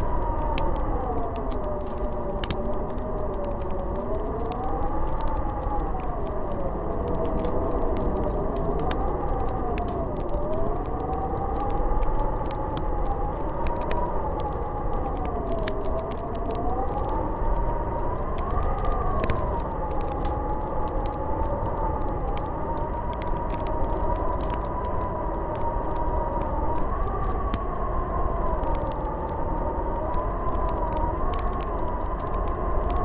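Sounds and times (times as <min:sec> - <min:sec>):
wind howling: 0:00.0 - 0:33.0.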